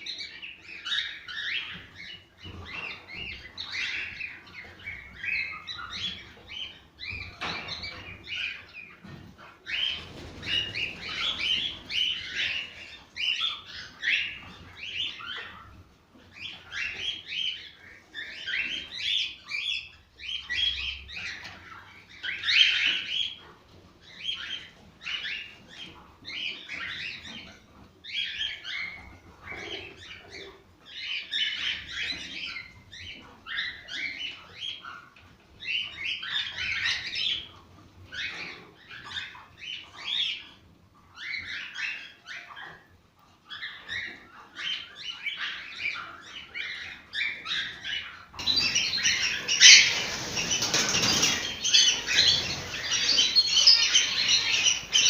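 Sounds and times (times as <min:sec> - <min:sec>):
cockatiels chirping: 0:00.0 - 0:55.0.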